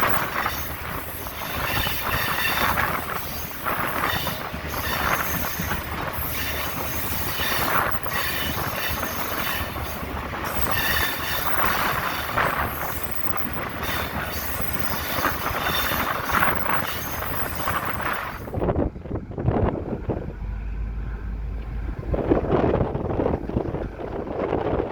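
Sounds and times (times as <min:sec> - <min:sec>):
railway cars rumbling on rails: 0:00.0 - 0:24.9.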